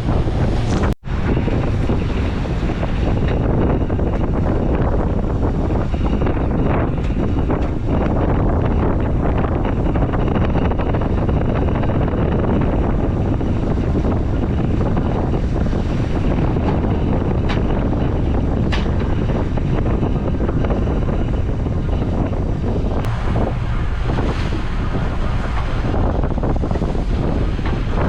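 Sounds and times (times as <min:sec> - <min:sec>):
boat engine rumble: 0:00.0 - 0:28.0
wind buffeting microphone: 0:00.0 - 0:28.0.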